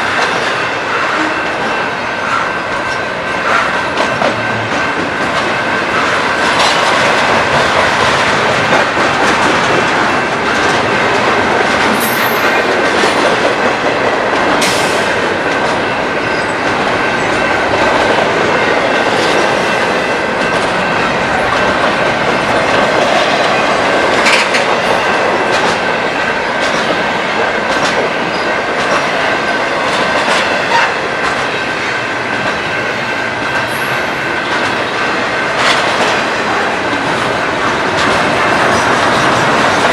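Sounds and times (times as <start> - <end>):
rail cars rumbling: 0.0 - 39.9
train wheels clacking over rails: 0.0 - 39.9.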